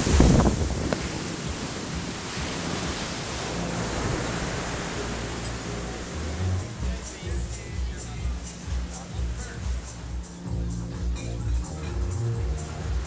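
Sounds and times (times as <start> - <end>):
ocean surf on a beach: 0.0 - 11.1, 11.8 - 13.0.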